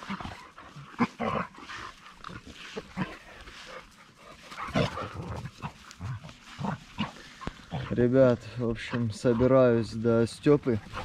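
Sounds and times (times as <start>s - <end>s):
dogs play-fighting and growling: 0.0s - 11.0s.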